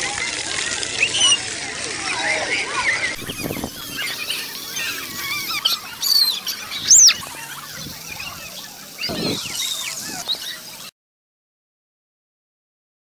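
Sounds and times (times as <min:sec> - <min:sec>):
children shrieking and calling: 0:00.0 - 0:10.9.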